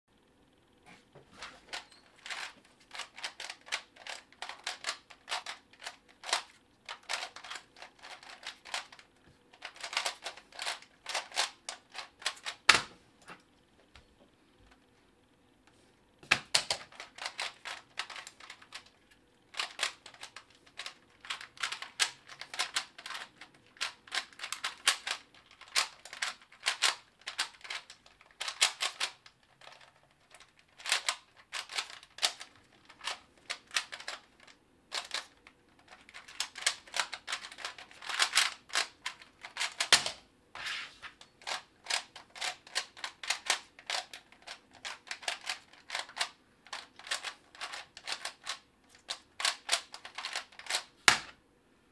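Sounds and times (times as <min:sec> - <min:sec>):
puzzle cube clicking: 0:01.7 - 0:09.0, 0:09.6 - 0:12.9, 0:16.3 - 0:18.9, 0:19.5 - 0:40.2, 0:41.4 - 0:51.3.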